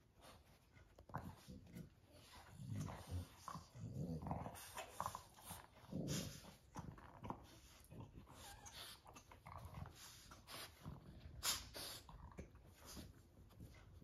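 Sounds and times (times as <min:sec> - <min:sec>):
dogs breathing and mouth sounds: 0:00.0 - 0:14.0.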